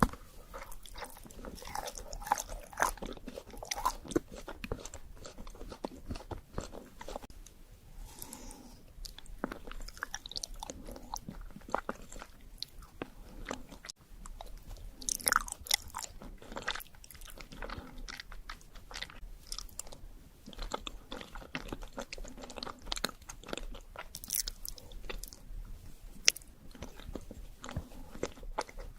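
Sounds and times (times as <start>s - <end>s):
biting and chewing: 0.0s - 7.3s, 8.1s - 25.5s, 26.1s - 28.9s
wet mouth sounds: 0.0s - 7.3s, 8.0s - 28.9s.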